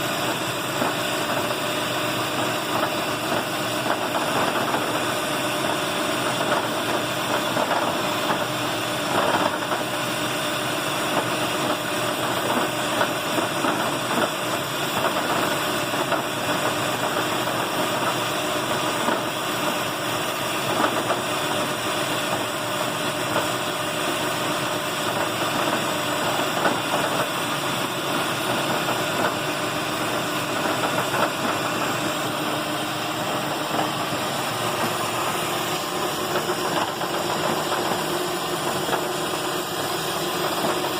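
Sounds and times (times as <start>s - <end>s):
car engine idling with rattle: 0.0s - 40.9s.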